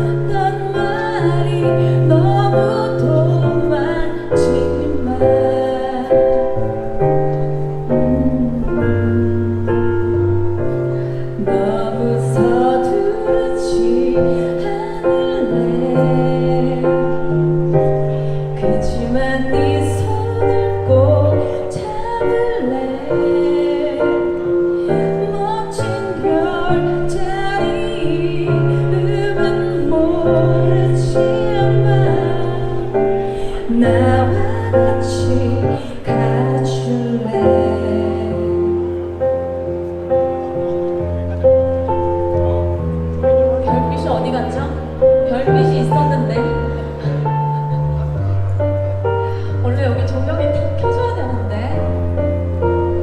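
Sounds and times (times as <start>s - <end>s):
held bass notes: 0.0s - 53.0s
keyboard chords: 0.0s - 53.0s.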